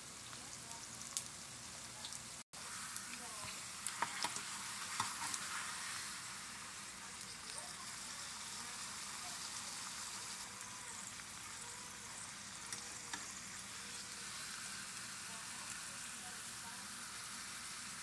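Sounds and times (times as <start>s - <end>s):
tortilla sizzling in hot oil: 0.0s - 18.0s.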